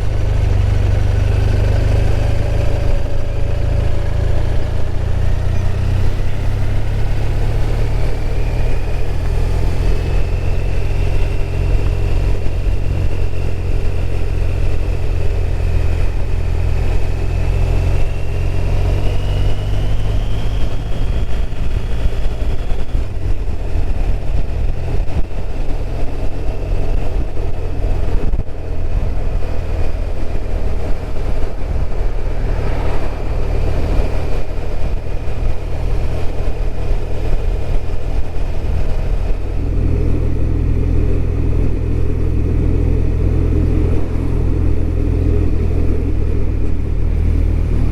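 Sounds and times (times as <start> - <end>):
motorcycle engine running: 0.0 - 47.9
wind and road noise: 0.0 - 47.9.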